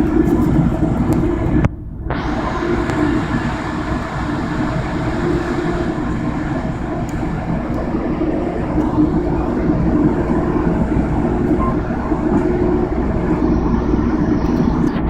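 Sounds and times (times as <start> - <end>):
train rumbling from inside: 0.0 - 15.0.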